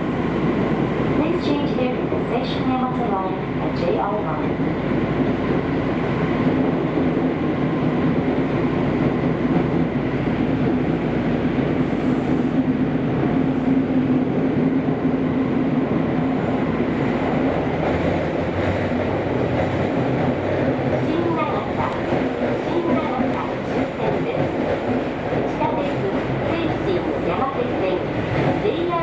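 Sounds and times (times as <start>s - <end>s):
train running in tunnel: 0.0s - 29.0s.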